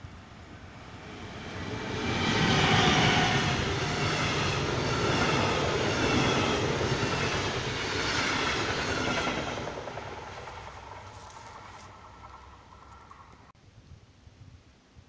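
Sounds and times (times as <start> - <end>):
high train whine: 0.0 - 13.5
train wheels rumbling on rail: 0.5 - 13.5.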